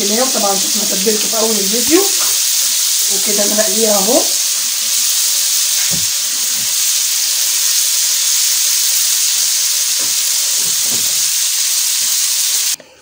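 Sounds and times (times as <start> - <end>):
food deep-frying in oil: 0.0 - 12.8.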